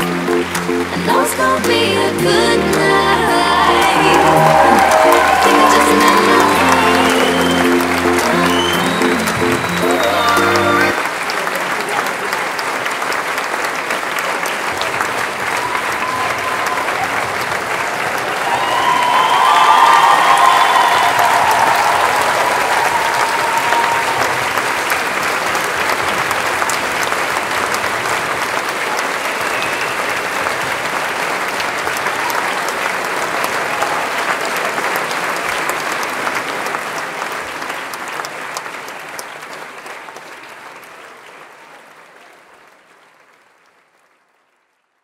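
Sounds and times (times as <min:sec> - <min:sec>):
audience applauding: 0:00.0 - 0:45.0.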